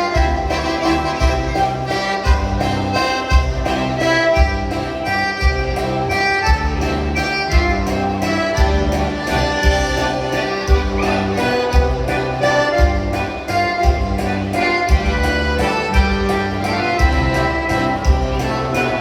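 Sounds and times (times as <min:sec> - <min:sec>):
sustained melody: 0:00.0 - 0:19.0.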